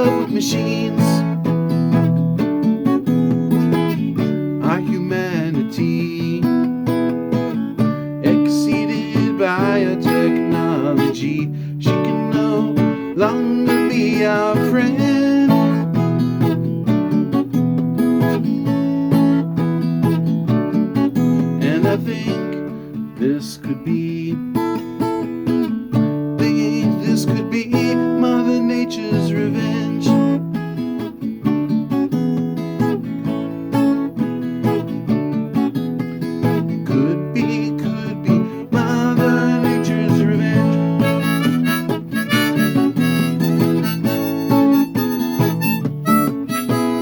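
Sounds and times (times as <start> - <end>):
acoustic guitar strumming chords: 0.0 - 47.0.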